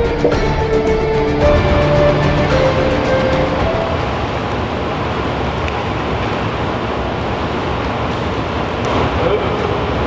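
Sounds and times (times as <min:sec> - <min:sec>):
pool water rushing and splashing: 0:00.0 - 0:10.0.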